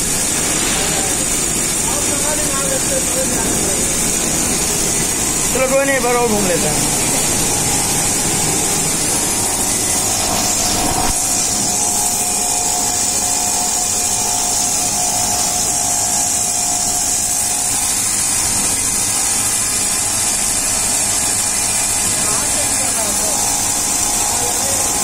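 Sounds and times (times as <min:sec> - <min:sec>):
grinding wheel hiss: 0:00.0 - 0:25.0.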